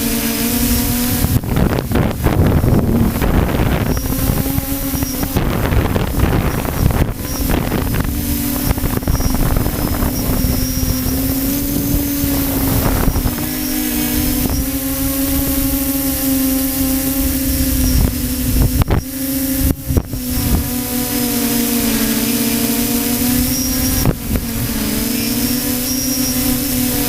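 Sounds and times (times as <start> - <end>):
propeller motor humming: 0.0 - 27.0
wind rumbling on microphone: 0.0 - 27.0.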